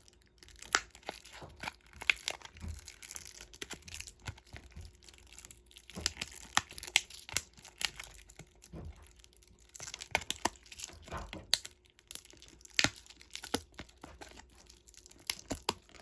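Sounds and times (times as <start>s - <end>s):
wrappers crinkling and tearing: 0.0s - 16.0s.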